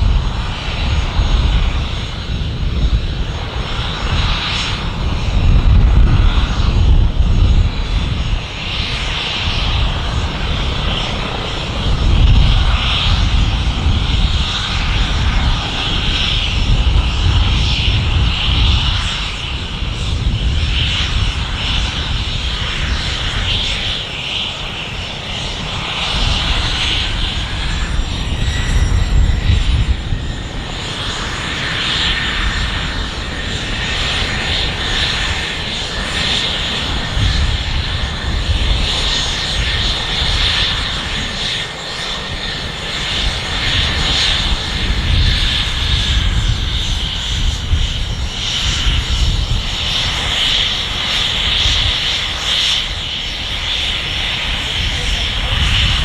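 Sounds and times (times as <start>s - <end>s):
aircraft engines running: 0.0s - 56.0s.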